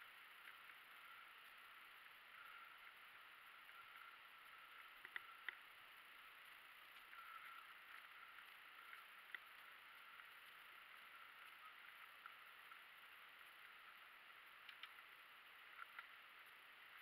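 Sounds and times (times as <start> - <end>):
faint clicks: 0.0 - 17.0
faint steady hiss: 0.0 - 17.0.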